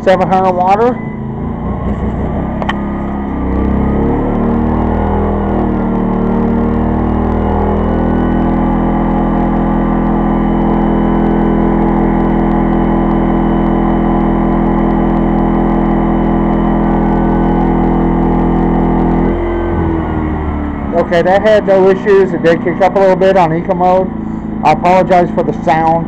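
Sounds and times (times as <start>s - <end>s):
generator engine droning: 0.0s - 26.0s.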